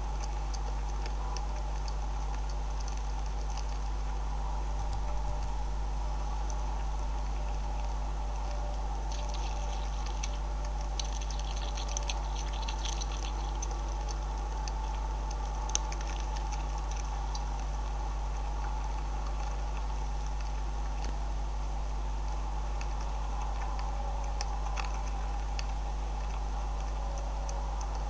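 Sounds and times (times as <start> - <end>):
beavers chewing feed: 0.0 - 28.0
low electrical hum: 0.0 - 28.0.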